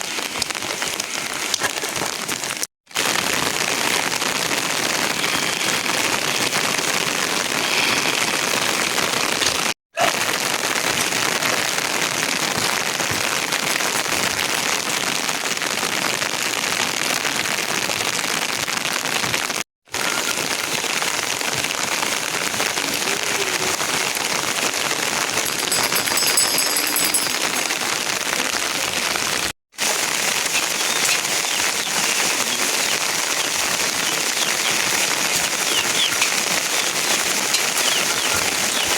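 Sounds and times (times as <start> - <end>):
heavy rain falling: 0.0 - 9.5, 10.2 - 38.9.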